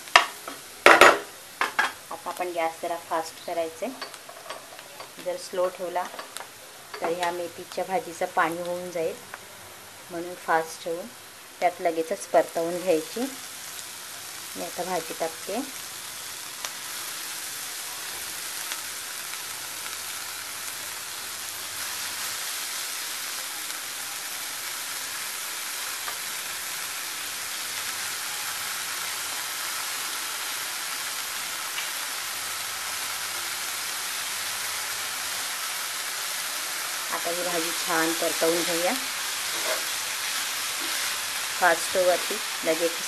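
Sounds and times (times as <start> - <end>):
leaves sizzling in hot oil: 0.0 - 43.0.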